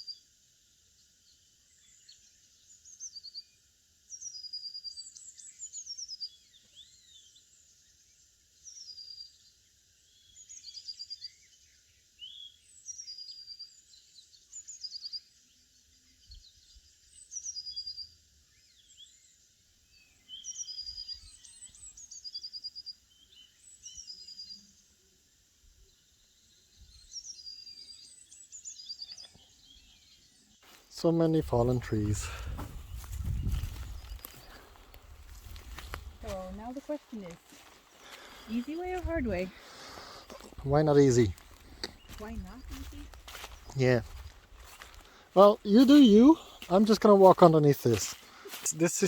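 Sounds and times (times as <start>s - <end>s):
faint outdoor background hiss: 0.0s - 49.0s
songbirds singing: 1.0s - 49.0s.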